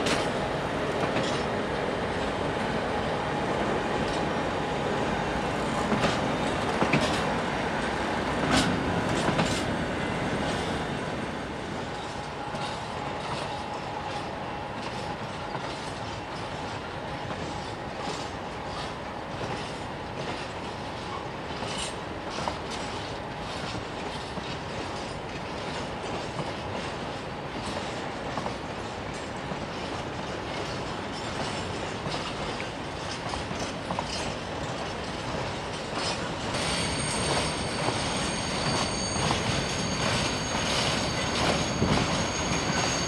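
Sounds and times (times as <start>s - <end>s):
train wheels rumbling on rail: 0.0s - 43.0s
wheels clacking over rail joints: 5.8s - 9.8s, 11.9s - 43.0s.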